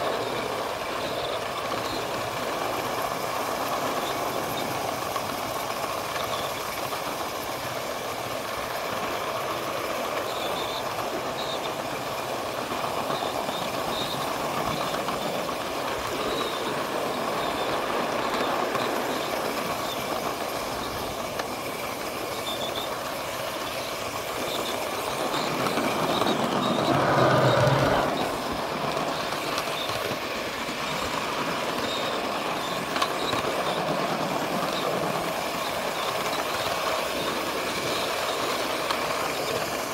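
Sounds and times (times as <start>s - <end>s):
train wheels rushing on rail: 0.0s - 39.9s.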